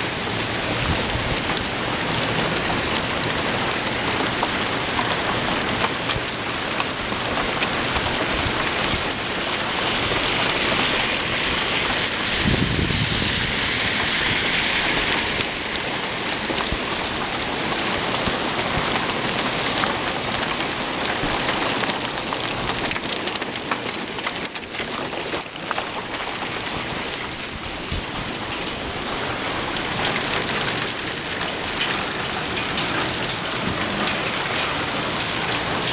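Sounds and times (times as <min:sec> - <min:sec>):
small hail falling: 0:00.0 - 0:35.9.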